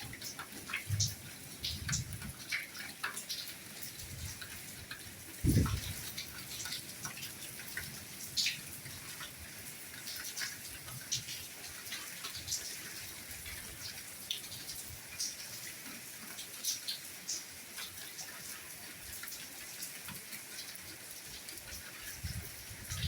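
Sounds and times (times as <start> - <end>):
drops pattering and dripping: 0.0 - 23.0
soft rain falling: 0.0 - 23.0.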